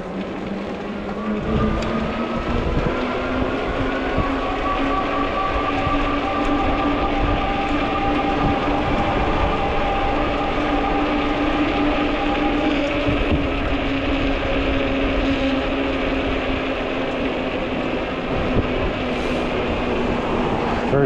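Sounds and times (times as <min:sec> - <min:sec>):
electric bike motor whine: 0:00.0 - 0:21.0
tyres humming on road: 0:00.0 - 0:21.0
wind rumble on microphone: 0:00.0 - 0:21.0.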